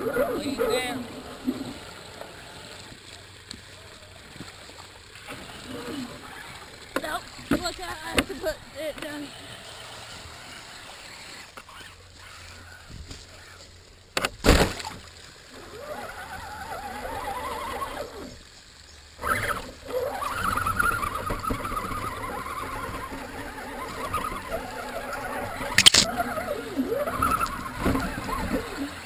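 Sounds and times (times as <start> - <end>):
toy truck electric motor whining: 0.0 - 14.2, 15.4 - 29.0
water splashing: 0.0 - 29.0.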